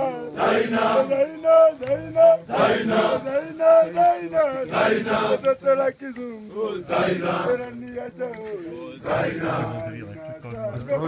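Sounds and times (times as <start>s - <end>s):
group singing in chorus: 0.0s - 5.6s, 6.4s - 10.4s.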